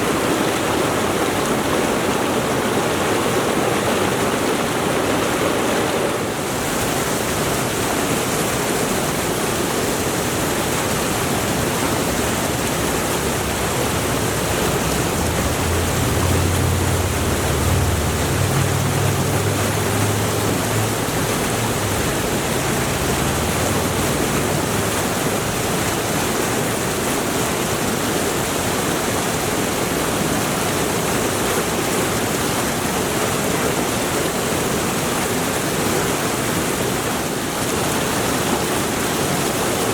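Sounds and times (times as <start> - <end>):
river rushing and splashing: 0.0 - 39.9.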